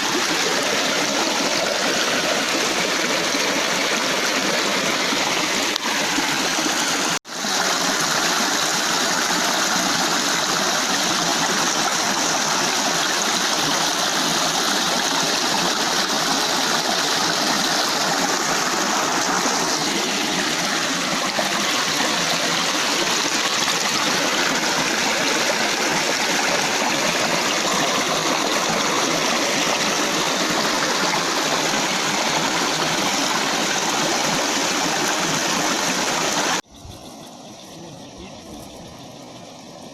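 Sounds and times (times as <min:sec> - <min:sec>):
rain runoff streaming: 0:00.0 - 0:36.7.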